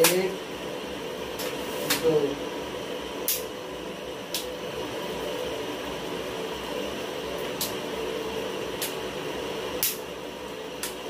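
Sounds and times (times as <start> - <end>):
fan hum: 0.0 - 11.0.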